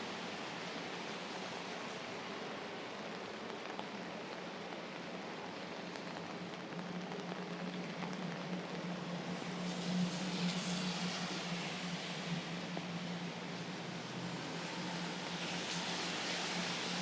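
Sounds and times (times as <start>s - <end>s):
rain pattering on an umbrella: 0.0s - 17.0s.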